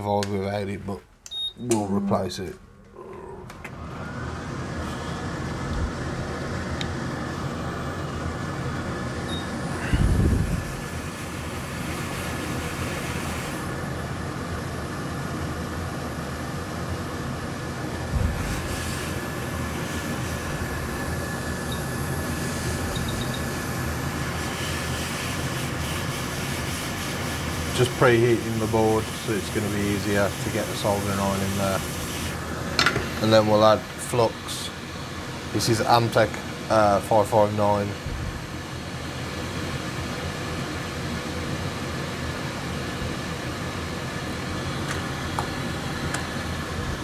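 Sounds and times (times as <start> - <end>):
hot-air fan whining: 0.0 - 47.0.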